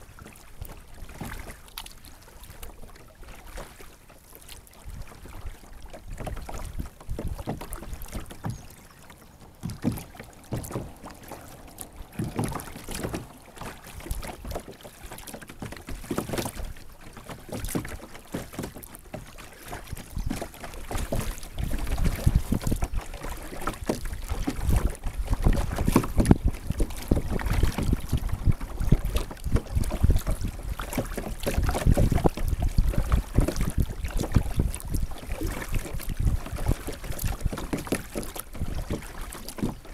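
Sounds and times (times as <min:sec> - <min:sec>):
paddle dipping in water: 0:00.0 - 0:39.9
water splashing around kayak: 0:00.0 - 0:39.9.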